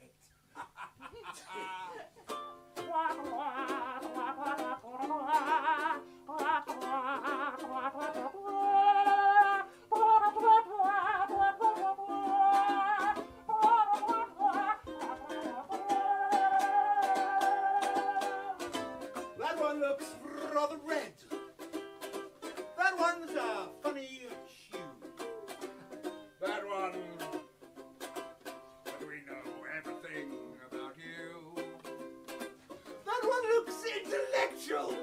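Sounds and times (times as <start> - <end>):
strummed ukulele: 1.5 - 35.0.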